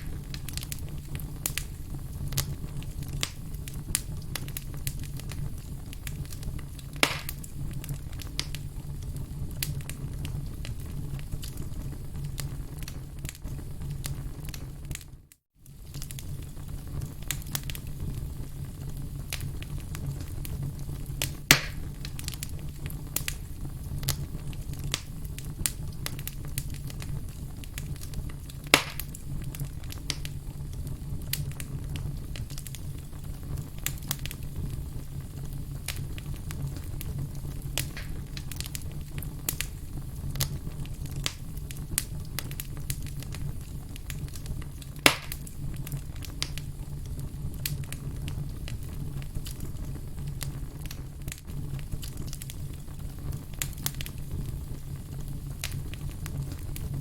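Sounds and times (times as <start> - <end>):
campfire crackling: 0.0 - 57.0
loud fire pops: 0.0 - 57.0.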